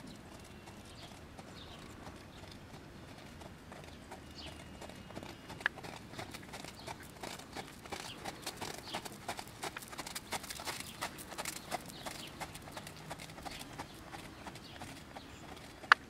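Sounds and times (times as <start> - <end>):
hoofbeats trotting on gravel: 0.0 - 16.0.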